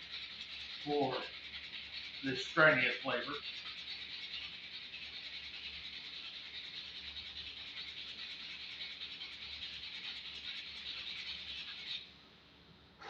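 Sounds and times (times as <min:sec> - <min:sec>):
sandpaper rubbing on wood: 0:00.0 - 0:12.1.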